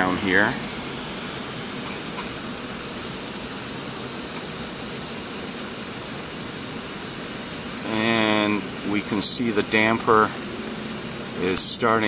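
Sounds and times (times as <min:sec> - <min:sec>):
air conditioner rushing air: 0:00.0 - 0:12.0.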